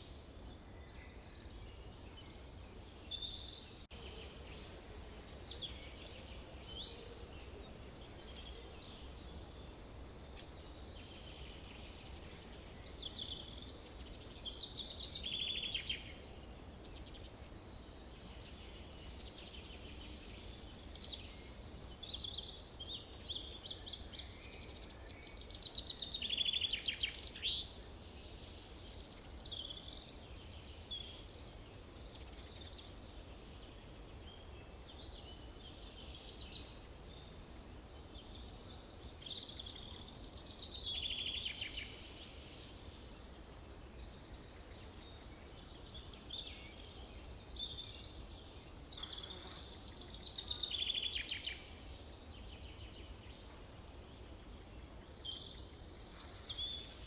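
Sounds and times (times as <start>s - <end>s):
birds singing and trilling: 0.0s - 57.0s.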